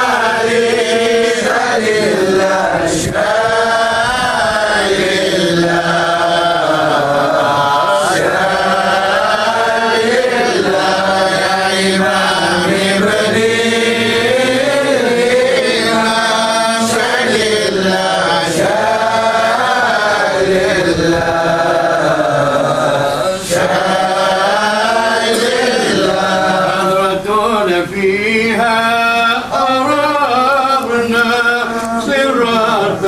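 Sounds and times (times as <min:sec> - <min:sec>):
men chanting devotional verses: 0:00.0 - 0:33.0.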